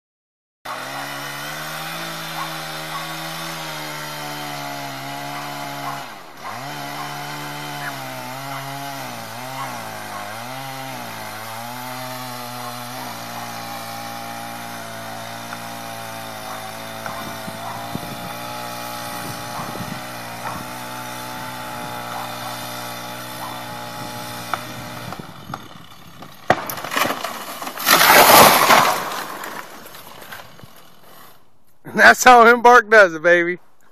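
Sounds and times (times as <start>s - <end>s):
chainsaw cutting: 0.7s - 32.8s.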